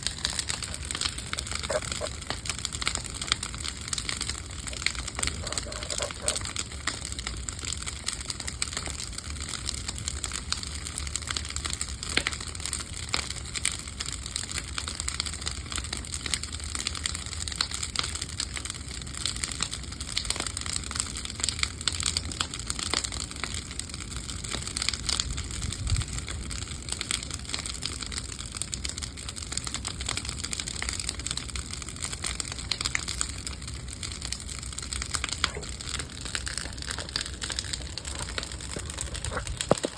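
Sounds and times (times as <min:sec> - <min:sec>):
bonfire crackling and popping: 0:00.0 - 0:39.9
low fire rumble: 0:00.0 - 0:39.9.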